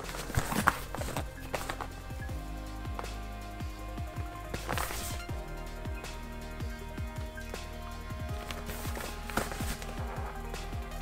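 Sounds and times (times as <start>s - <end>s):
music with deep drum hits: 2.0s - 11.0s.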